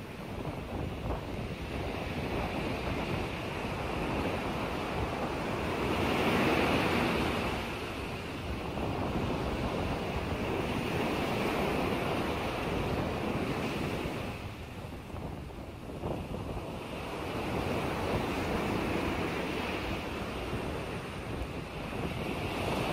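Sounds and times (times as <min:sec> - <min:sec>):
lake waves washing: 0:00.0 - 0:22.9
wind rushing over microphone: 0:00.0 - 0:22.9.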